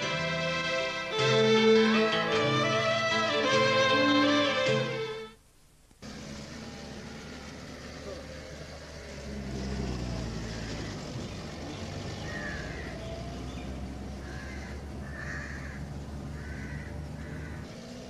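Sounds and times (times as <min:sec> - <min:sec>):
van engine humming: 0:00.0 - 0:18.0.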